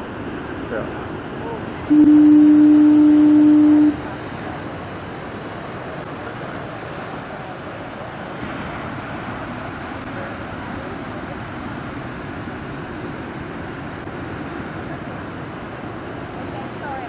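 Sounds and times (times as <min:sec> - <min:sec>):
heavy ocean surf: 0:00.0 - 0:17.0
wind: 0:00.0 - 0:17.0.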